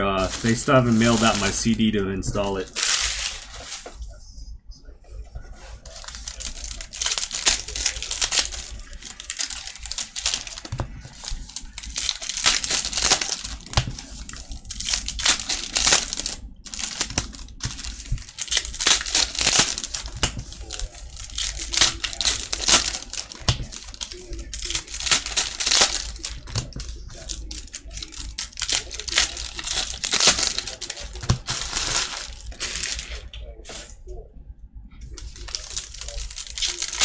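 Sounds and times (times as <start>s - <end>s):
foil wrappers crinkling and tearing: 0.0s - 4.0s, 5.5s - 34.0s, 35.0s - 37.0s.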